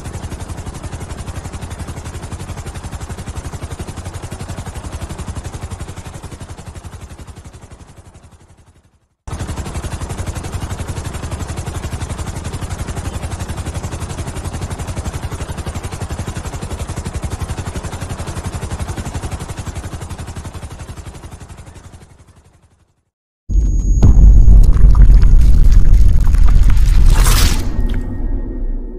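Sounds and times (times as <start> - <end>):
helicopter rotors beating: 0.0 - 28.9.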